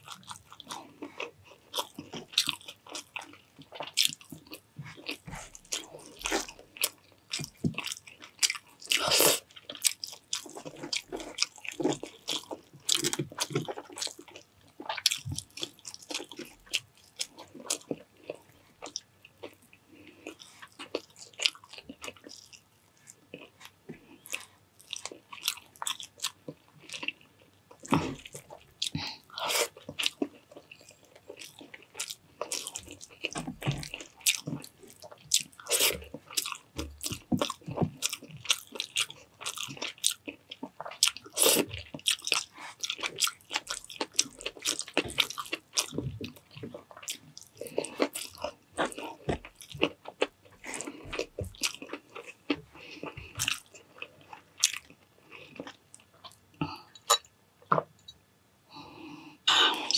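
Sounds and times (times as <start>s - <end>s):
person chewing food: 0.0s - 58.1s.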